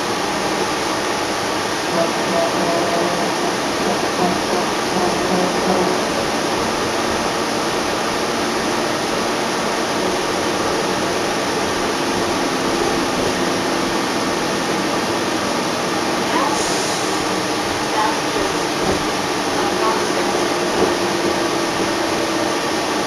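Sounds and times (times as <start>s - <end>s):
bus engine drone: 0.0s - 23.0s
road and wind noise: 0.0s - 23.0s.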